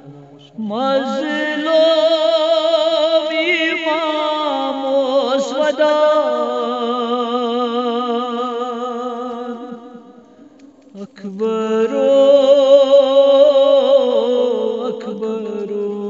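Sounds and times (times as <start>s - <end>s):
man chanting a lament: 0.0s - 9.9s, 11.0s - 16.0s.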